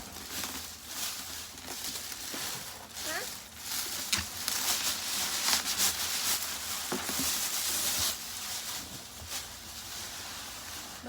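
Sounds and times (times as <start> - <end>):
packaging rustling and crackling: 0.0 - 11.0.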